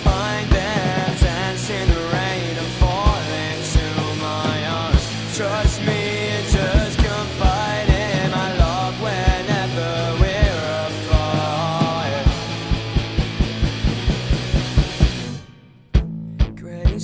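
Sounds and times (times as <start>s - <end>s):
drum hits: 0.0s - 16.1s
rock band playing: 0.0s - 17.0s.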